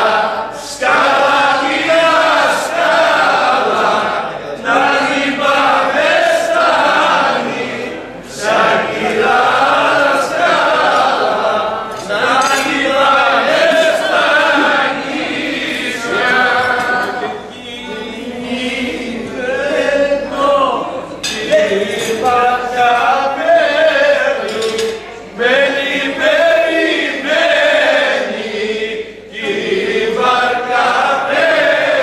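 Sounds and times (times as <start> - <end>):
men singing together: 0.0 - 32.0.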